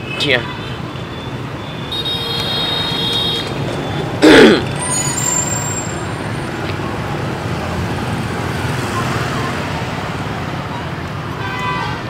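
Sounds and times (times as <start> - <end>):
motorbikes passing: 0.0 - 12.0.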